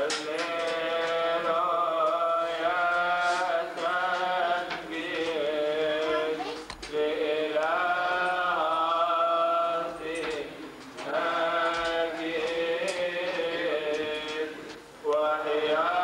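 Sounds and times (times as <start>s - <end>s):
voices singing liturgical chant: 0.0s - 16.0s.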